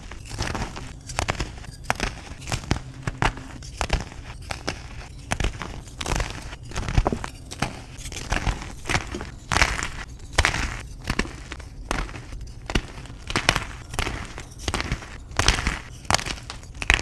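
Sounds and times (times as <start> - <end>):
chalk crunching and cracking: 0.0 - 17.0.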